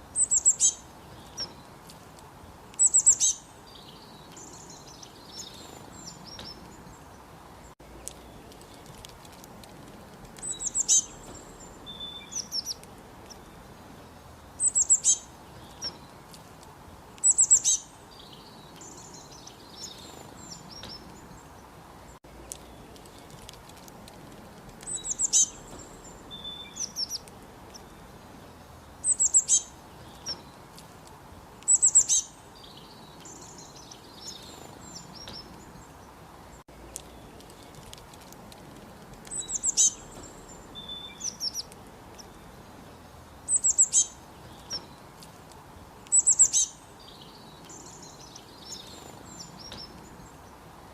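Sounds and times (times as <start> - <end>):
songbirds chirping: 0.0 - 50.9
steady background hiss: 0.0 - 50.9.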